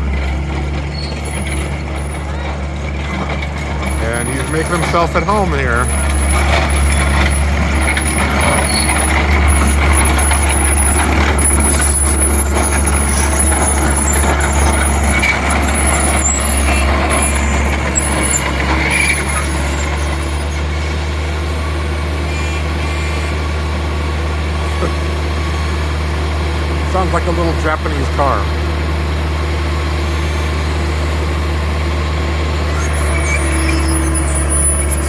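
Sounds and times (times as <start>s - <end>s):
skid steer engine droning: 0.0s - 35.0s.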